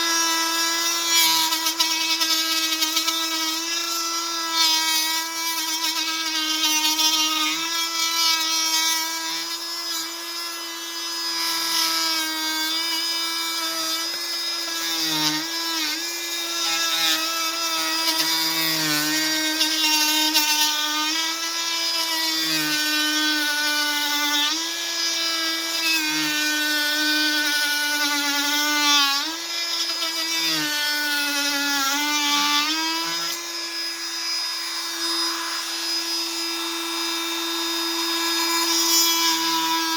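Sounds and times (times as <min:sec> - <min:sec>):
oscillating multi-tool buzzing: 0:00.0 - 0:39.9.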